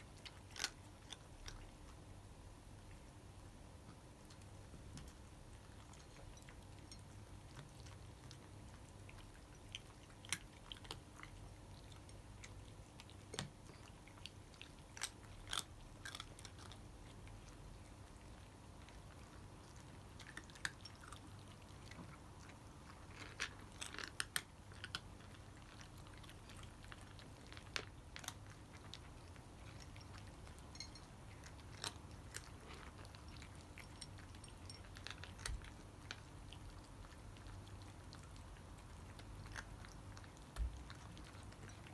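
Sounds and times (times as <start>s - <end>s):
cats crunching dry kibble: 0.0s - 41.9s
low steady hum: 0.0s - 41.9s.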